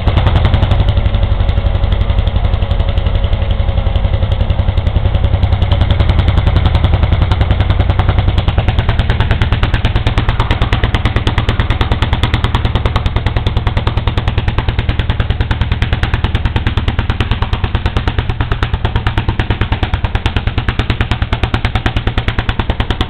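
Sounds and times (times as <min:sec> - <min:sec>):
tractor engine exhaust bangs: 0:00.0 - 0:23.0.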